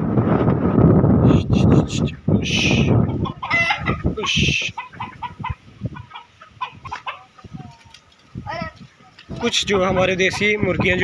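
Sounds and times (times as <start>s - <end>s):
chickens clucking: 1.3s - 11.0s.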